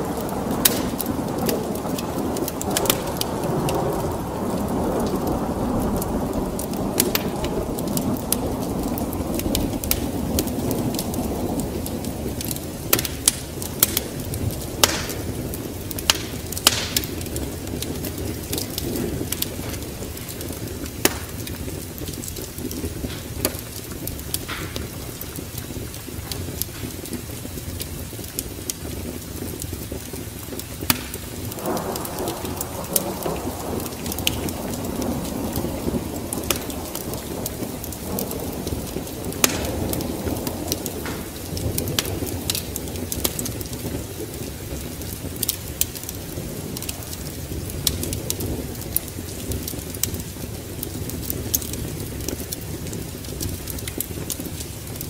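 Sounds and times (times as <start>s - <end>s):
rolling thunder: 0.0s - 55.0s
steady rain: 0.0s - 55.0s
wood fire crackling and popping: 0.0s - 55.0s.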